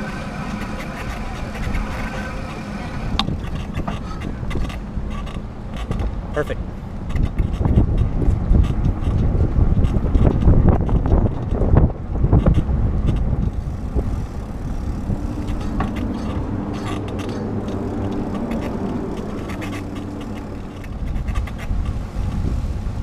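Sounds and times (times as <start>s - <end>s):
low engine hum: 0.0s - 23.0s
wind rushing over microphone: 0.0s - 23.0s.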